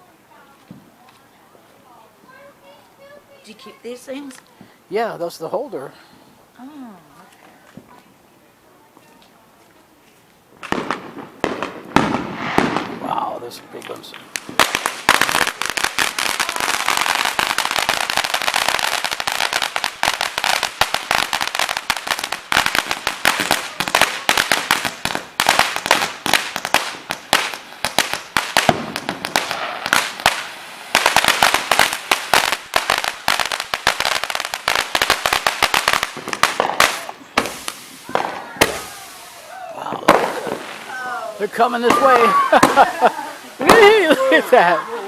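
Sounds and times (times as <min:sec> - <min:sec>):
fireworks crackling: 0:00.0 - 0:45.0.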